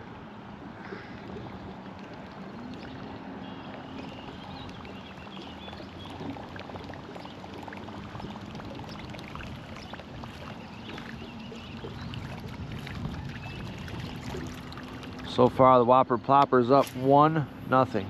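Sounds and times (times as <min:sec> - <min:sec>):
water lapping against a boat: 0:00.0 - 0:18.0.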